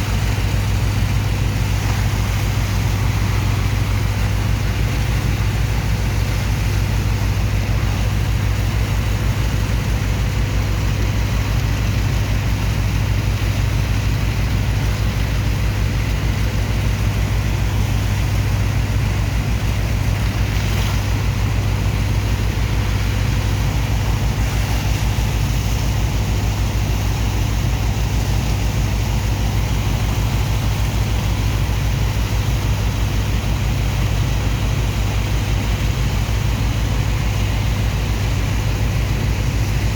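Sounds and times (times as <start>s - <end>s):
diesel pump engine droning: 0.0s - 39.9s
faint steady whine: 0.0s - 39.9s.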